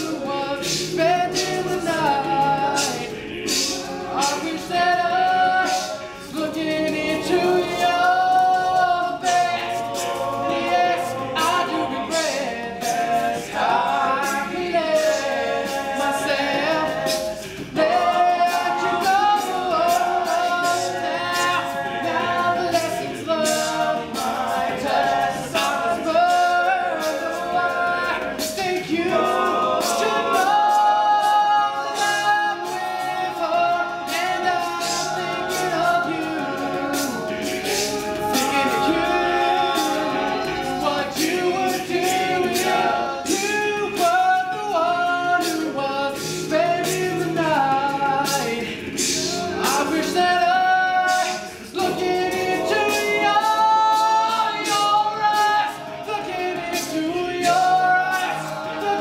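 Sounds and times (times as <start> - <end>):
male a cappella group singing: 0.0 - 59.0
percussive vocal strokes: 0.0 - 59.0.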